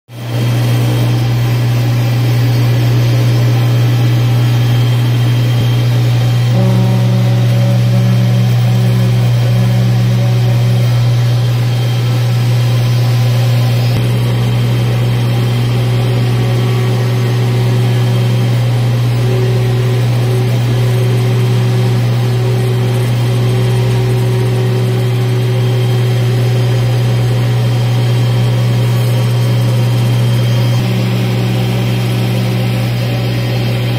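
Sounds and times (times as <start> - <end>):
cutting machine low hum: 0.1 - 33.9
cutting head whines: 0.2 - 33.9.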